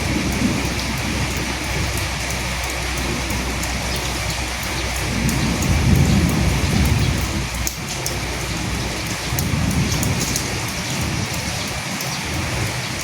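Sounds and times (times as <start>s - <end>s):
low rumble: 0.0s - 11.5s
drops ticking: 0.0s - 13.0s
steady rain falling: 0.0s - 13.0s.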